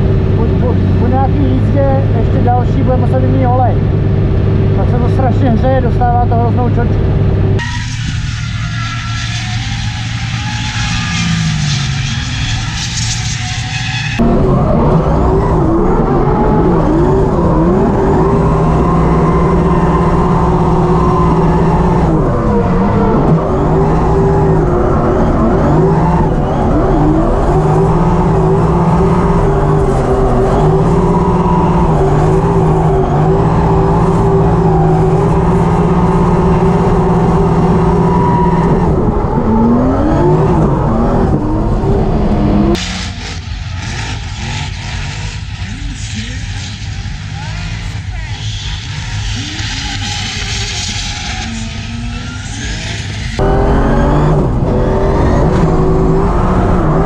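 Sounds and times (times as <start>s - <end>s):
car engine at high revs: 0.0s - 57.0s
distant race car noise: 0.0s - 57.0s.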